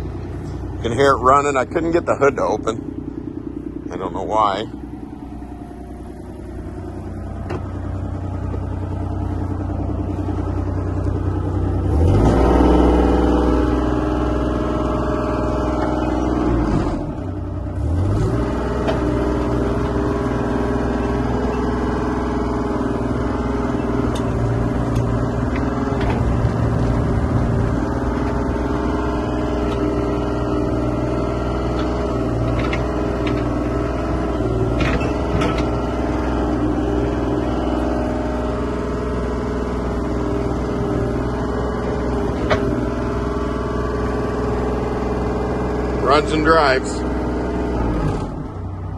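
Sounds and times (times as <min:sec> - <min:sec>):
mini excavator diesel engine running: 0:00.0 - 0:48.9.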